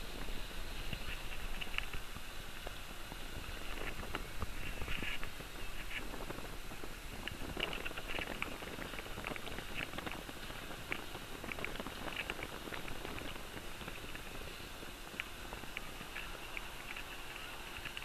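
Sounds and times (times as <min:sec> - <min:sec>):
wind rushing over microphone: 0:00.0 - 0:18.0
short crackles and clicks: 0:00.2 - 0:02.8, 0:03.4 - 0:18.0.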